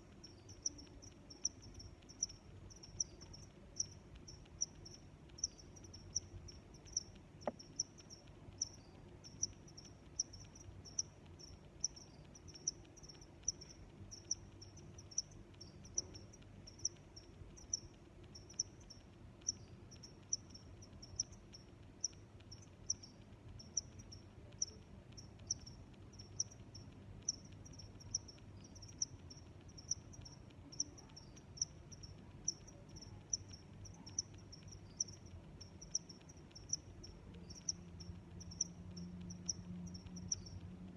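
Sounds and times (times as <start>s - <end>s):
cricket chirping: 0.0s - 40.9s
faint low hum: 0.0s - 40.9s.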